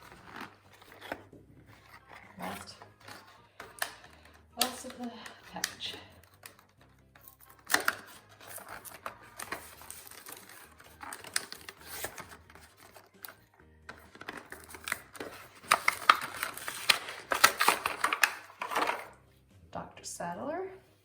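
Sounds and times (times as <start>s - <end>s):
packaging crinkling and tearing: 0.0s - 19.1s.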